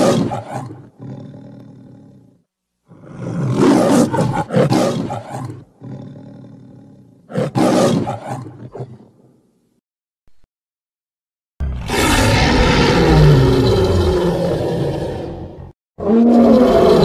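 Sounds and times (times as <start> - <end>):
big cat roar: 0.0 - 9.0, 11.6 - 17.0.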